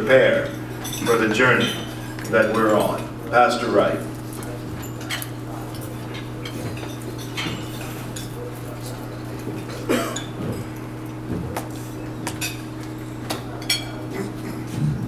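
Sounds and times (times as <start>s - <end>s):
steady low hum: 0.0s - 15.0s
dishes and cutlery clinking: 0.4s - 3.2s, 4.1s - 14.9s.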